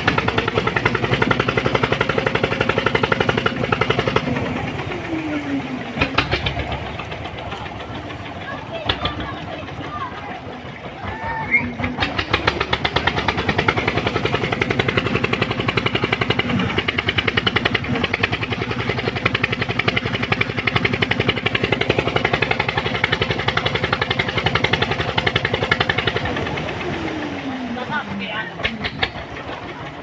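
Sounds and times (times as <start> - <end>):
engine chugging: 0.0 - 30.0.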